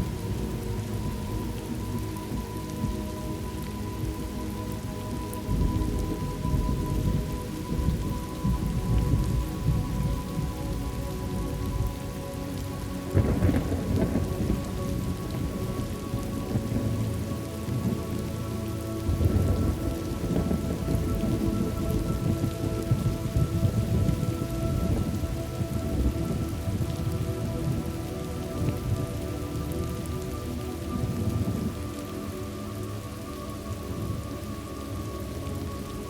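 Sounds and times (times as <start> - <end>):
thunder rumbling: 0.0 - 32.4
soft sustained tones: 0.0 - 36.0
steady rain: 0.0 - 36.0.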